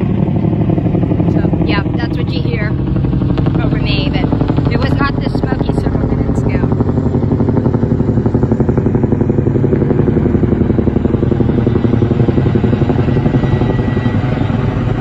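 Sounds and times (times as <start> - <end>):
helicopter rotor thudding: 0.0 - 15.0.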